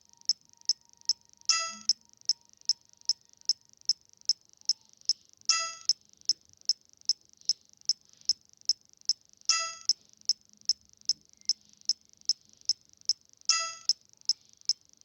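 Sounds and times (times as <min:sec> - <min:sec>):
high-pitched ticking clicks: 0:00.0 - 0:14.9.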